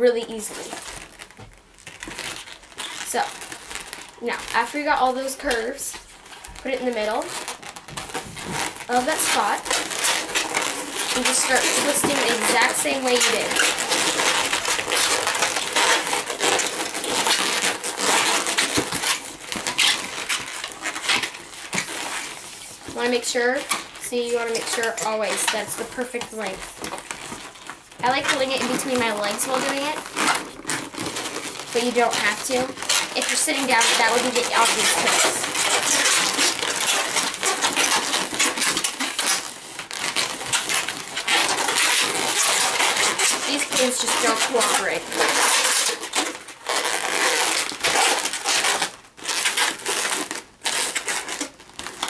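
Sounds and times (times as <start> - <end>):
balloons rubbing and twisting: 0.0 - 52.0.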